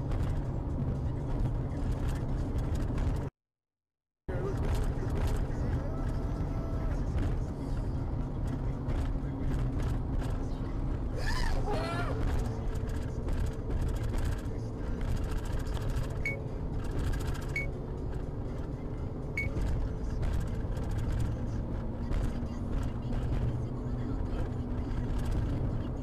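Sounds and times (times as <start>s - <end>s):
car road and engine rumble: 0.0s - 3.3s, 4.3s - 26.0s.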